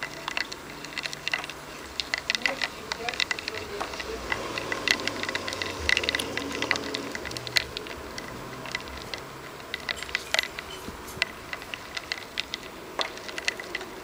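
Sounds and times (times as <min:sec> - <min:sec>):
clicks and taps on plastic cup: 0:00.0 - 0:14.0.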